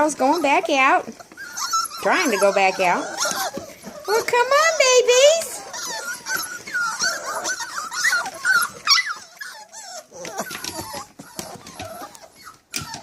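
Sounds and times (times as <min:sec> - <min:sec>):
puppies whining: 0:00.0 - 0:13.0.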